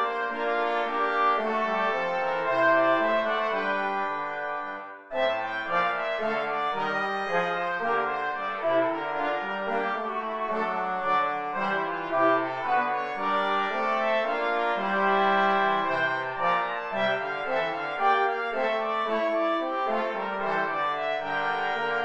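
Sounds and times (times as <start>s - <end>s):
brass quartet playing chorale: 0.0s - 22.0s.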